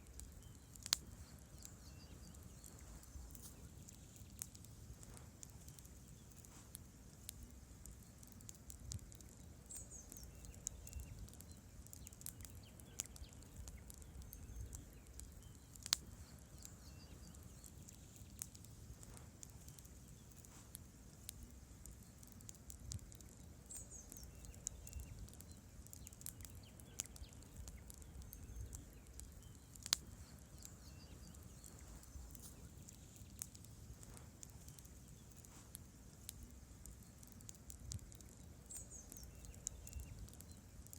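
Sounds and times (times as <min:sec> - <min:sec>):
campfire crackling and popping: 0:00.0 - 0:40.9
low steady fire rumble: 0:00.0 - 0:40.9.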